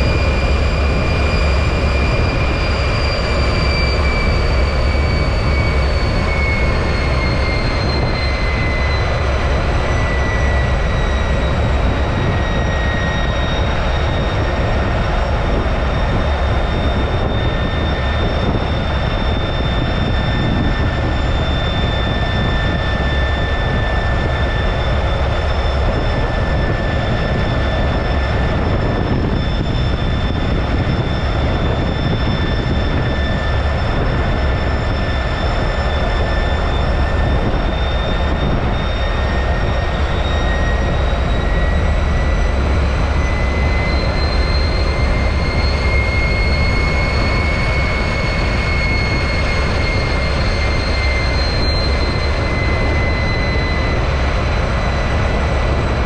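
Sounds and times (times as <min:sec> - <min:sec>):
jet engine running: 0:00.0 - 0:56.0.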